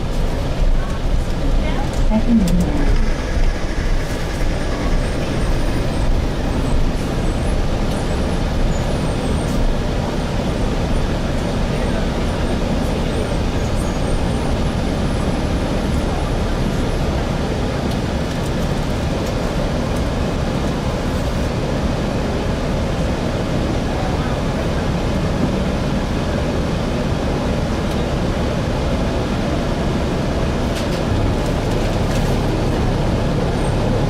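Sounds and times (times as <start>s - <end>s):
bus cabin engine and road rumble: 0.0s - 34.0s.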